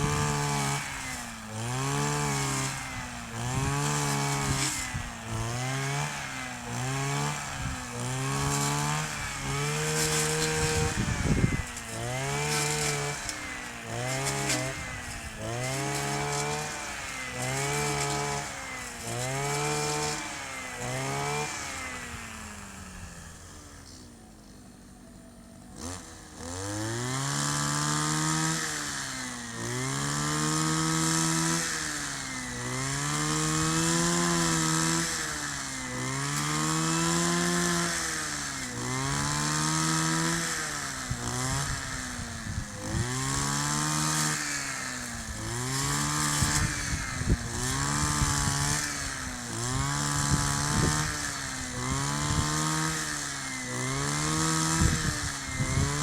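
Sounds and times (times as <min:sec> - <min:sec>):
brush cutter engine revving: 0:00.0 - 0:56.0.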